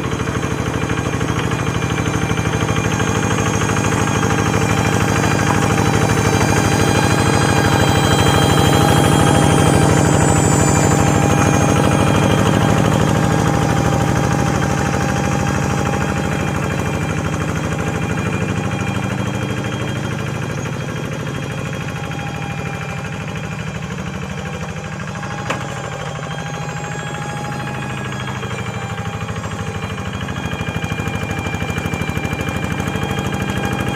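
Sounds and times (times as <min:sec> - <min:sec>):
hand tractor engine running: 0:00.0 - 0:33.9.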